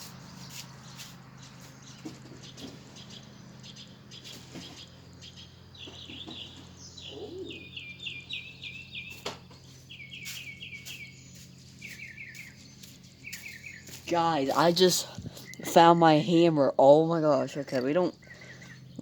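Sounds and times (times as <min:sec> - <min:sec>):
steady low hum: 0:00.0 - 0:19.0
songbird singing trilled phrases: 0:00.1 - 0:19.0.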